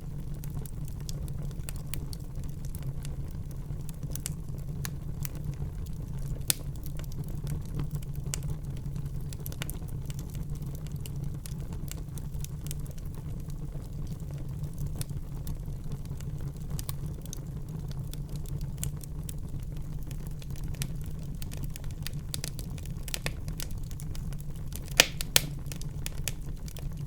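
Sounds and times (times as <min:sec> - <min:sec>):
fire crackling and popping: 0:00.0 - 0:27.0
low rumble of fire: 0:00.0 - 0:27.0.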